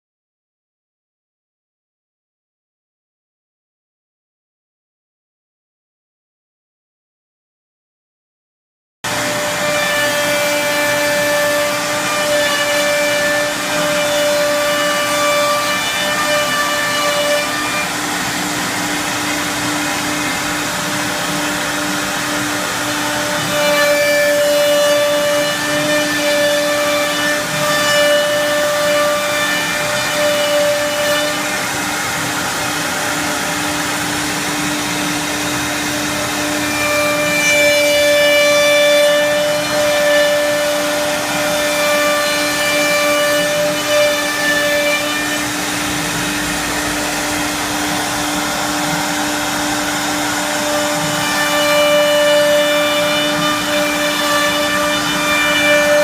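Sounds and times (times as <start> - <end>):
wood cutting noise: 9.0 - 56.0
wood router spindles whining: 9.1 - 56.0.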